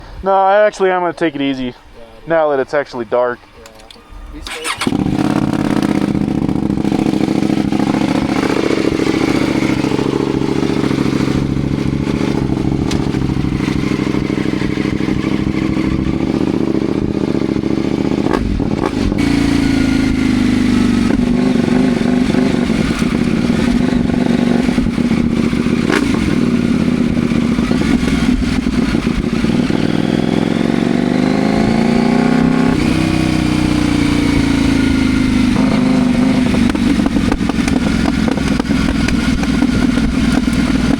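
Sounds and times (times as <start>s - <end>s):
motorcycle engine accelerating: 4.4s - 40.9s.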